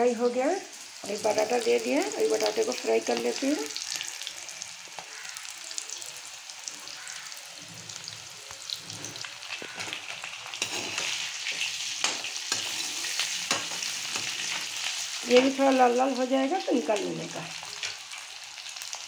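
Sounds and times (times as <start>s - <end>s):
potatoes sizzling in hot oil: 0.0s - 19.0s.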